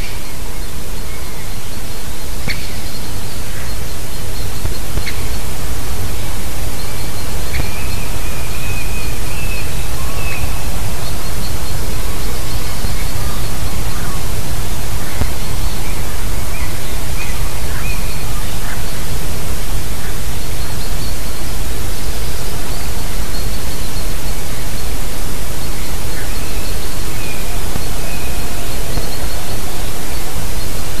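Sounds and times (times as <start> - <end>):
loud steady hiss: 0.0 - 31.0
small birds chirping: 0.0 - 31.0.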